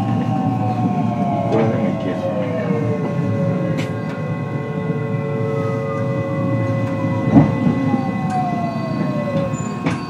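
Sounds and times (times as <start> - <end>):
rumble of train running: 0.0 - 10.0
train motor whine: 0.0 - 10.0.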